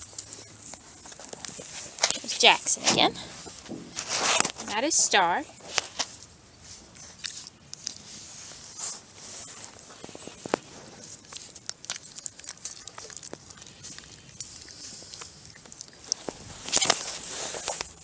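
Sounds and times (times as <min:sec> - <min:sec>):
puppies snuffling: 0:00.0 - 0:18.0.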